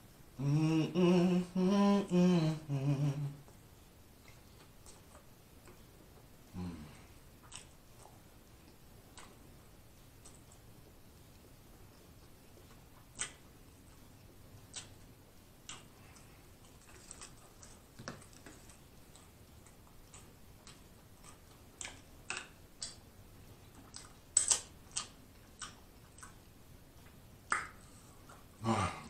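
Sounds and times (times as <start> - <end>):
wet mouth chewing: 4.2 - 6.3, 7.0 - 28.6.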